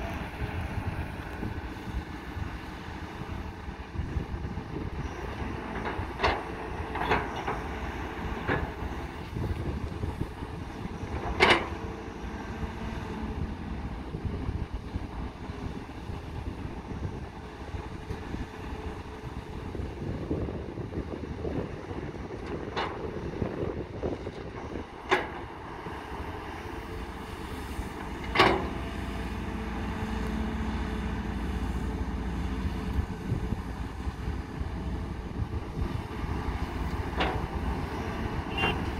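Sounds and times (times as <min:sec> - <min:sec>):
excavator diesel engine rumble: 0:00.0 - 0:38.9.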